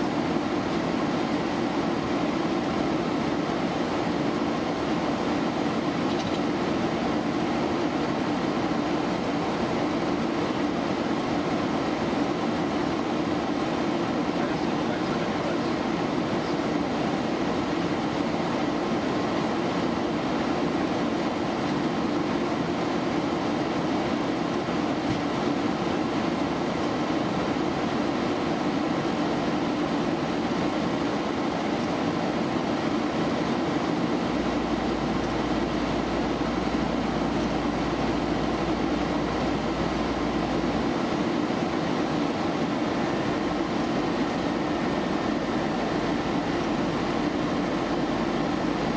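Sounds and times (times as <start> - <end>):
airflow and engine rush: 0.0 - 48.9.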